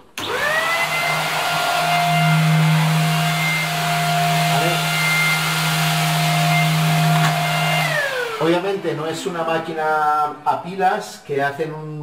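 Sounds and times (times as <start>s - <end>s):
vacuum cleaner motor whine: 0.2s - 10.0s.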